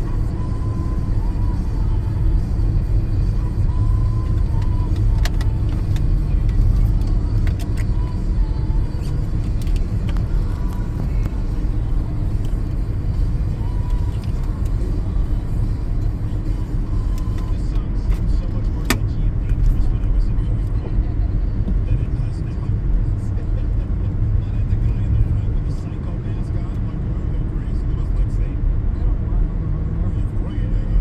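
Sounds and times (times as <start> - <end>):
engine and tyres rumbling: 0.0 - 31.0.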